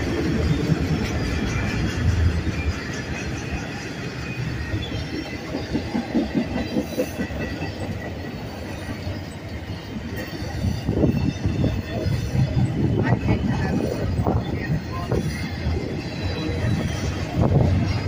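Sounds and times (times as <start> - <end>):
freight train rumbling past: 0.0 - 18.0
wheels clacking over rail joints: 0.0 - 18.0.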